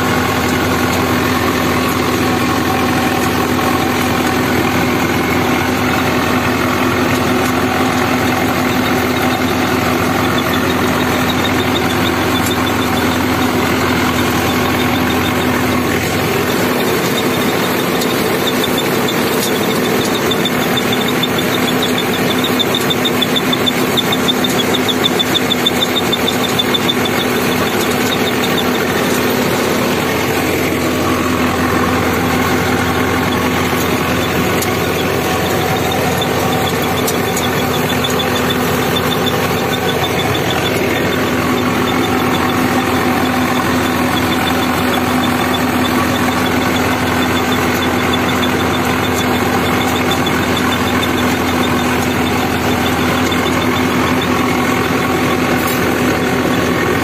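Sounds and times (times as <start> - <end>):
rotary tiller in soil: 0.0 - 57.0
tractor diesel engine under load: 0.0 - 57.0.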